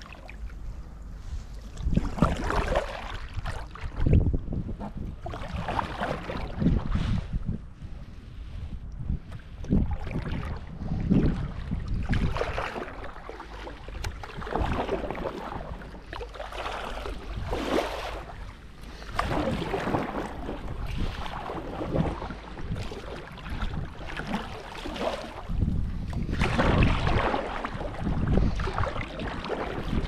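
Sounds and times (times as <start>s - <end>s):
paddle strokes splashing: 0.0s - 4.2s, 4.8s - 7.2s, 9.3s - 30.0s
wind buffeting microphone: 0.0s - 30.0s.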